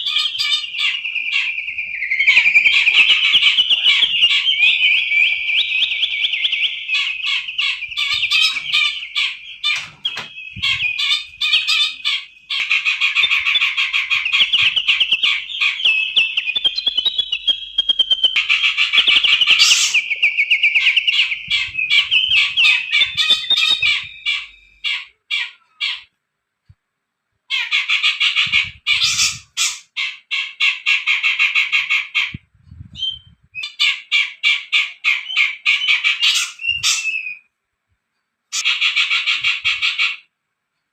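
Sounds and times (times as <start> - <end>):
songbirds singing in chattering trills: 0.0 - 26.1, 27.5 - 37.4.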